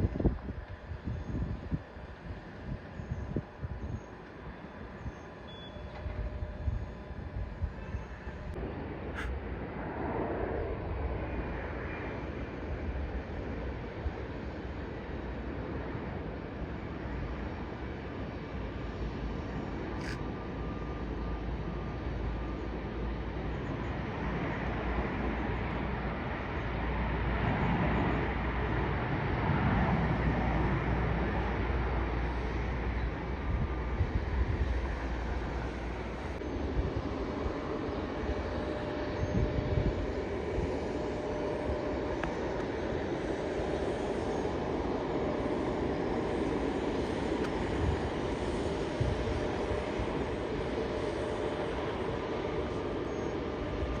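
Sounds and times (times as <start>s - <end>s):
jet aircraft rumble: 0.0s - 54.0s.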